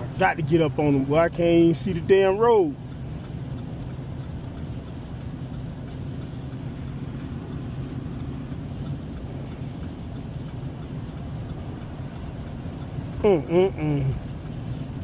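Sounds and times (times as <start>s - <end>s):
road noise: 0.0s - 15.0s
truck engine hum: 0.0s - 15.0s.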